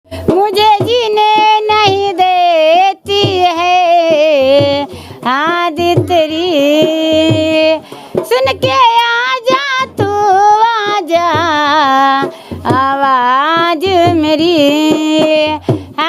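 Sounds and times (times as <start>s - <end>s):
child singing: 0.3s - 15.6s.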